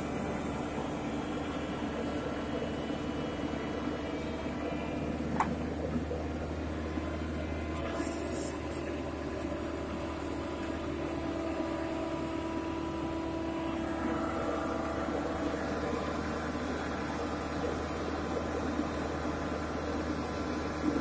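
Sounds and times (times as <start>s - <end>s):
drilling rig engine running: 0.0s - 21.0s.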